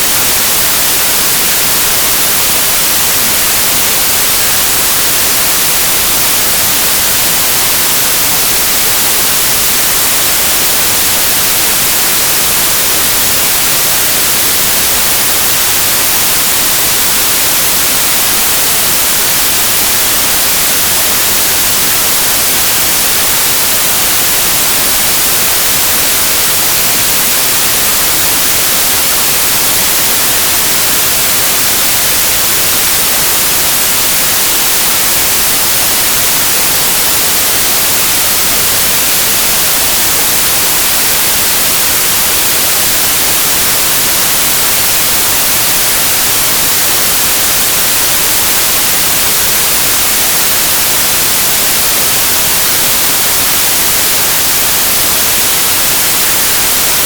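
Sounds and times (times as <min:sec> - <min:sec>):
synthetic white noise hiss: 0:00.0 - 0:57.0.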